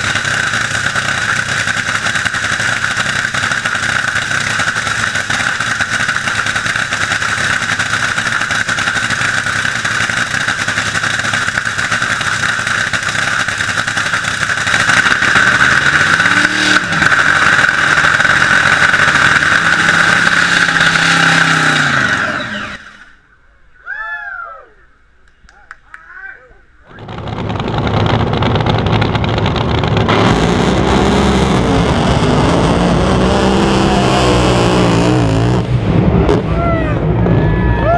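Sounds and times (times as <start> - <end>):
boat engine running loud: 0.0 - 22.9, 26.9 - 37.9.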